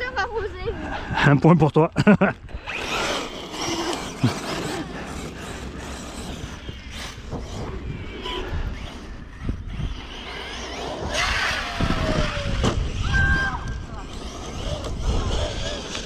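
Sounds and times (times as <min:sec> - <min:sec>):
rc truck running over rough ground: 0:02.0 - 0:16.0
falling motor whine: 0:02.5 - 0:16.0.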